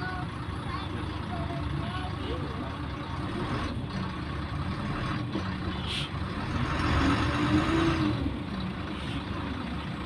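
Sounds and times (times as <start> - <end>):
bus engine running: 0.0 - 10.0.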